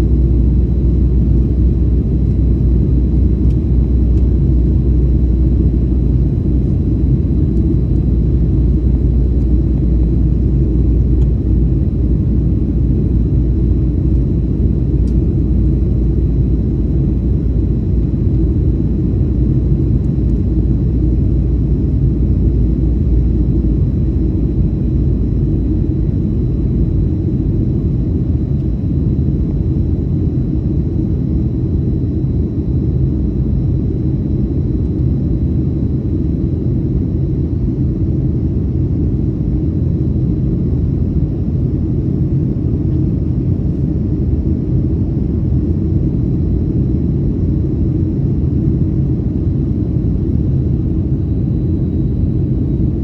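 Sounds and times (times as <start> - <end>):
aircraft engines rumbling: 0.0 - 53.0.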